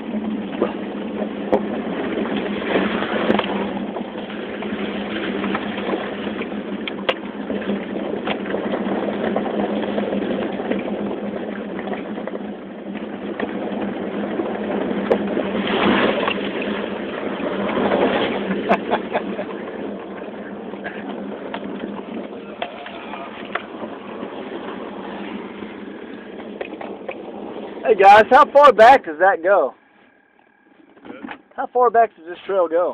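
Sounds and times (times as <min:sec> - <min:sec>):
car engine running: 0:00.0 - 0:32.6
tyres rolling over gravel: 0:00.0 - 0:32.9.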